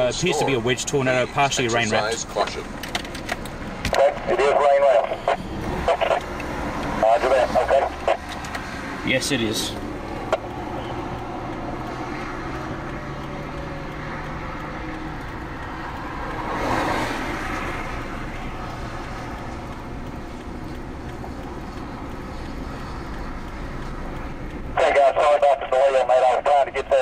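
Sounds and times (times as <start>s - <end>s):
car passing close: 0.0s - 27.0s
road traffic rush: 0.0s - 27.0s.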